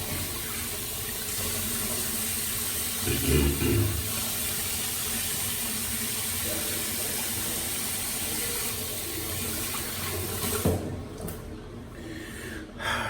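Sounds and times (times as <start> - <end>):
water running from a tap: 0.0 - 11.4.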